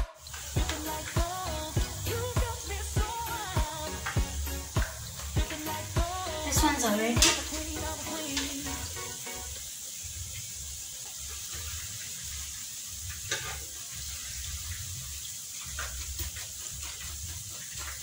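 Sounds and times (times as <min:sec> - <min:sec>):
potatoes sizzling in hot oil: 0:00.0 - 0:18.0.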